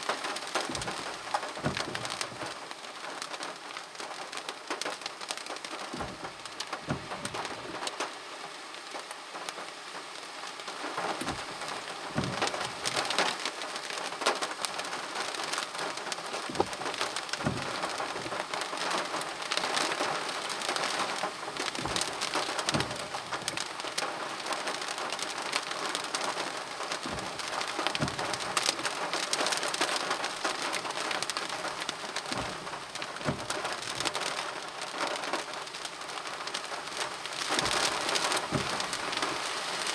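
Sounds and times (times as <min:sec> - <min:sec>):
close raindrops striking: 0:00.0 - 0:39.9
rain pattering: 0:00.0 - 0:39.9.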